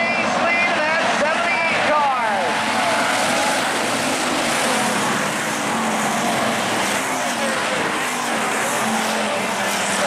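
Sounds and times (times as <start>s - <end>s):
race car engines roaring: 0.0s - 10.0s.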